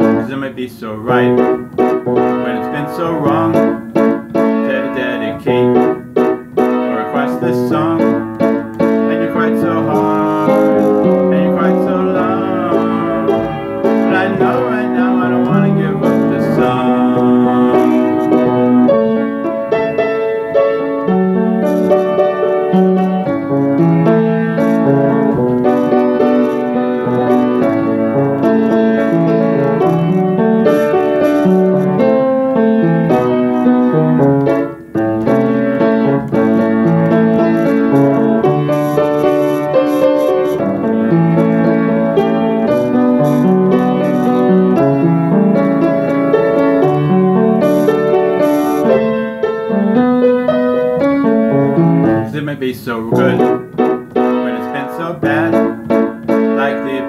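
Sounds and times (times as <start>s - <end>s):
piano keyboard playing chords: 0.0s - 57.0s.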